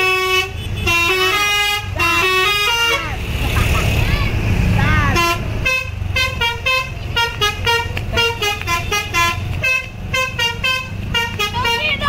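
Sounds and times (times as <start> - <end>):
bus horn playing a tune: 0.0 - 3.3, 5.0 - 12.0
bus engine rumble: 0.0 - 12.0.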